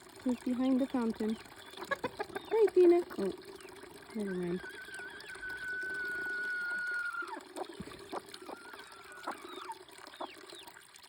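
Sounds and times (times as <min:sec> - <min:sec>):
water fountain trickling: 0:00.0 - 0:11.0.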